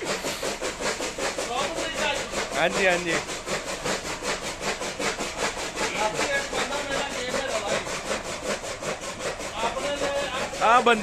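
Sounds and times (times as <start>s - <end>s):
chaff cutter chopping fodder: 0.0s - 11.0s.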